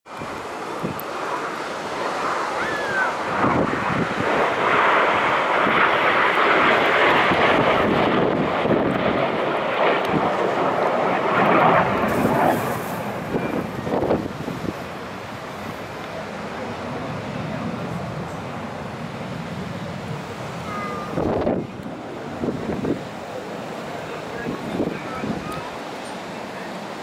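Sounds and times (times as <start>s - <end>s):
jets flying past: 0.1s - 27.0s.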